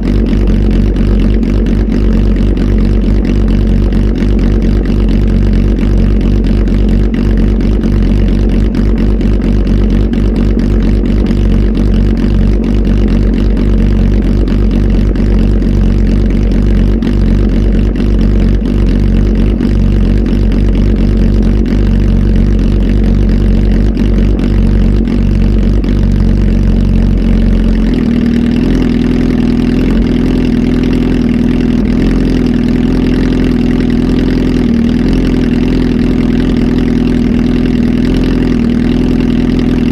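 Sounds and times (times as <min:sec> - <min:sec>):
loud motorcycle engine running: 0:00.0 - 0:39.9.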